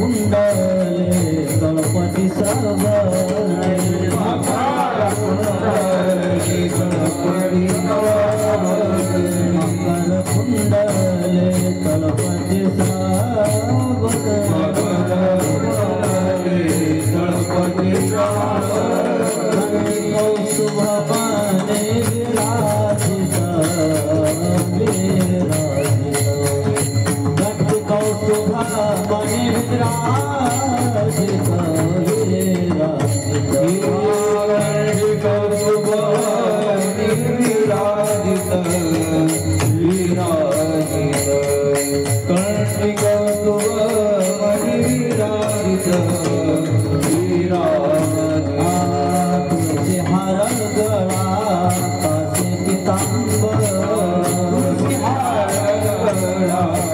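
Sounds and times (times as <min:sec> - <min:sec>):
man singing devotional song: 0:00.0 - 0:56.9
pitched accompaniment: 0:00.0 - 0:56.9
small hand cymbals beat: 0:00.0 - 0:56.9.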